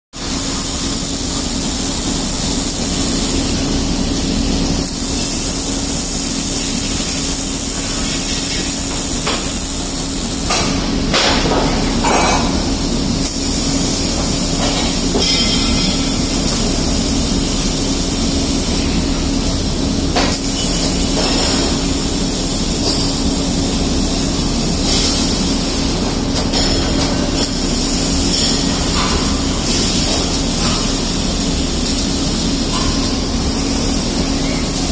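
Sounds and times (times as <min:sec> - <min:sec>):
welding arc hissing and crackling: 0:00.2 - 0:34.9.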